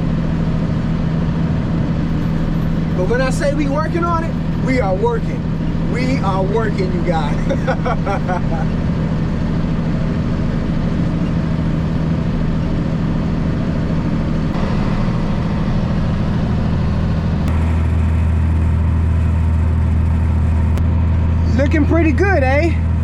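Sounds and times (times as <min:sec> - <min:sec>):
tractor engine pulling mower: 0:00.0 - 0:23.0.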